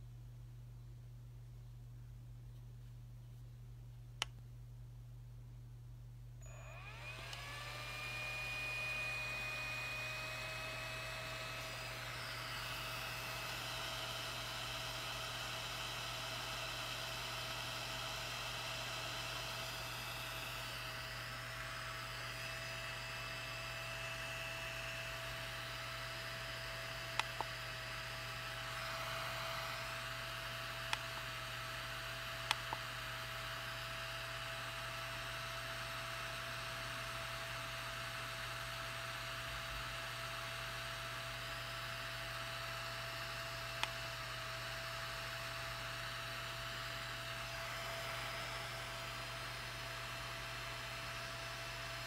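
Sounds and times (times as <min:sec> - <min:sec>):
cooling fan whining: 0:06.4 - 0:52.0.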